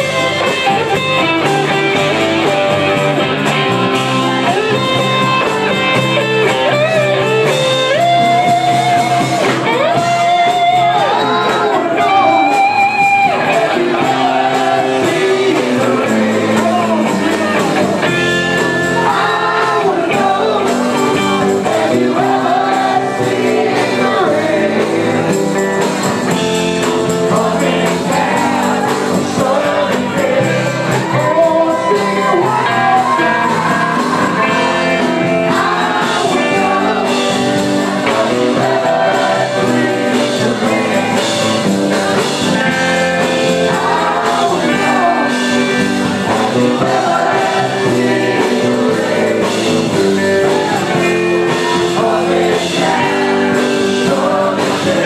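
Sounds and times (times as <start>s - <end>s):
live rock band playing: 0.0s - 55.0s
person singing: 8.2s - 25.6s, 26.3s - 42.6s, 43.2s - 55.0s.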